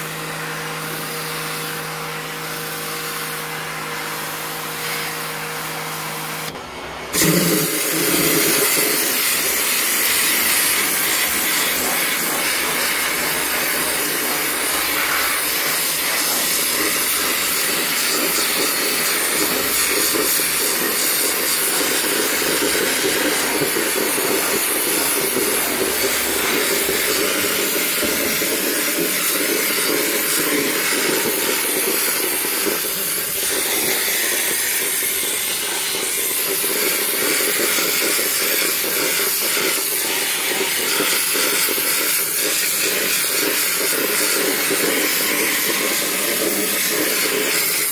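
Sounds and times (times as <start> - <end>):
steam cleaner hissing: 0.0 - 47.9.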